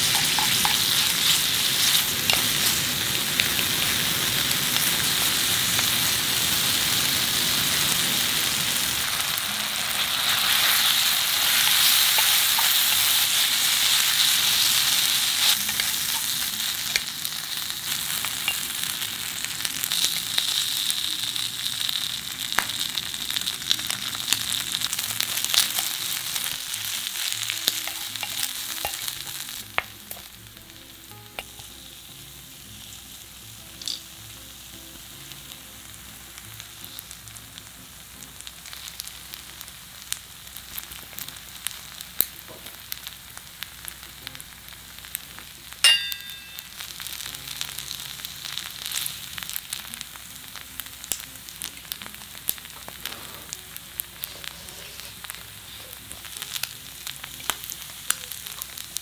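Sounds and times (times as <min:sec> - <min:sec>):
rice sizzling in a pan: 0:00.0 - 0:59.0.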